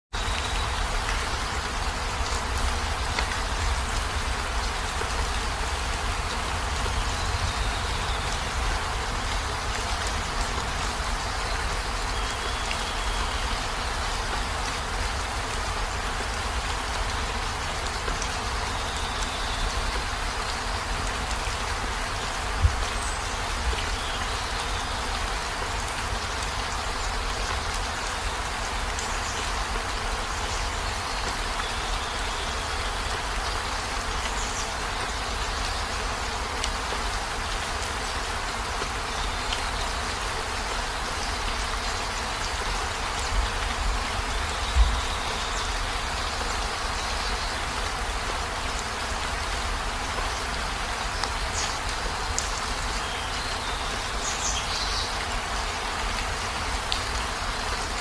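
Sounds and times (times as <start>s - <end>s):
heavy rain on car roof: 0.2s - 58.0s.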